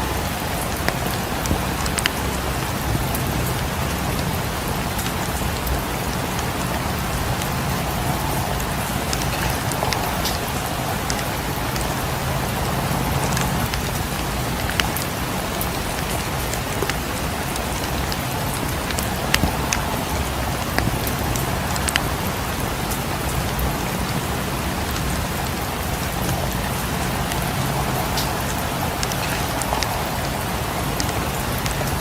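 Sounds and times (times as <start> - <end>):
fireplace crackling: 0.0 - 32.0
steady rain falling: 0.0 - 32.0.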